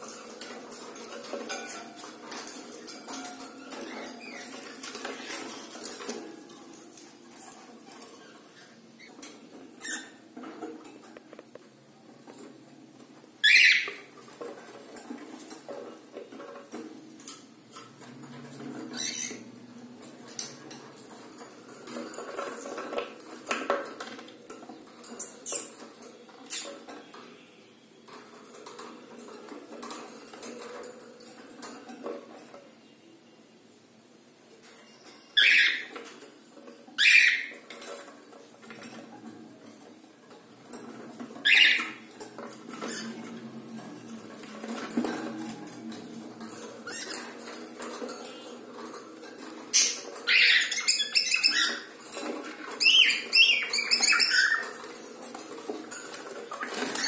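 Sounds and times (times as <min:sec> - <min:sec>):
birds scratching and tapping wood: 0:00.0 - 0:27.4, 0:28.0 - 0:32.8, 0:34.6 - 0:57.0.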